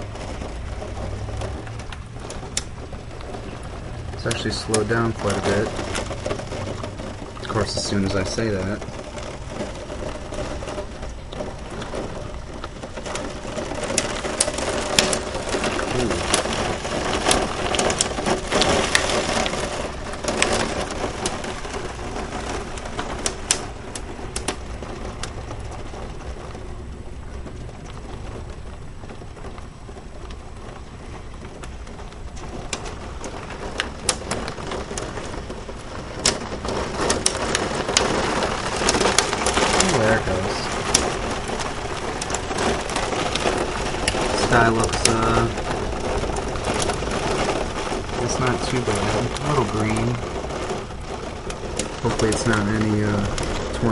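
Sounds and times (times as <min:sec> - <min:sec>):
hail ticking: 0:00.0 - 0:53.9
heavy rain pouring: 0:00.0 - 0:53.9.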